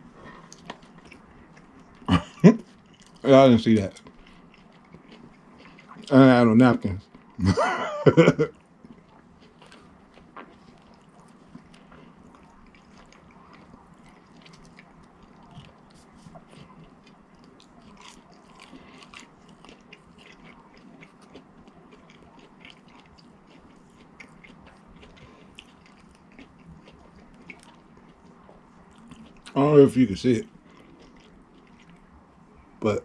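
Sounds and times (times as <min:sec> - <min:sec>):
person chewing food: 0:00.0 - 0:03.2, 0:03.8 - 0:06.2, 0:07.0 - 0:29.6, 0:30.2 - 0:32.8.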